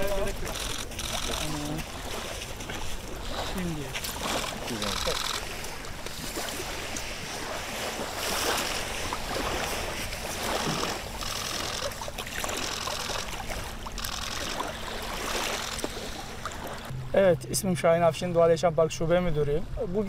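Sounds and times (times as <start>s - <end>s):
small waves lapping on shore: 0.0s - 17.1s.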